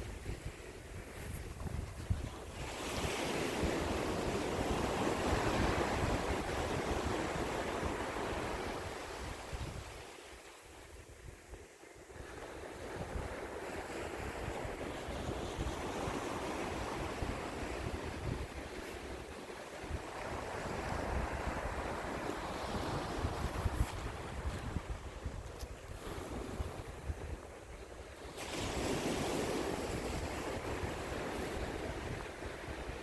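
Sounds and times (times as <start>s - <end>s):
wind buffeting microphone: 0.0s - 10.0s, 10.8s - 33.0s
sea waves washing onto shore: 0.0s - 10.6s, 12.2s - 33.0s.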